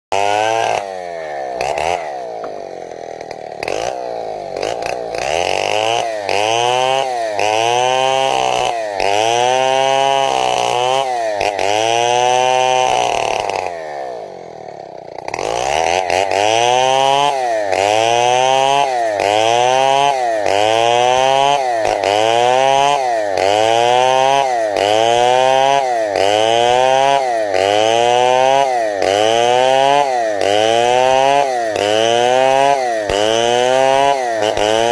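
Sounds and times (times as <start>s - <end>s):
chainsaw ripping a log: 0.1s - 34.9s.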